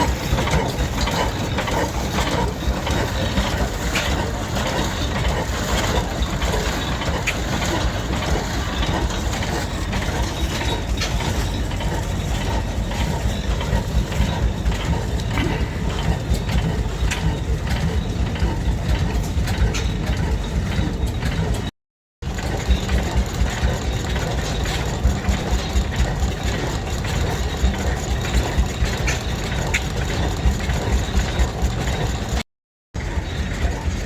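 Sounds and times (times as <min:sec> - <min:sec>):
old engine running with knocking: 0:00.0 - 0:32.4, 0:33.0 - 0:34.0.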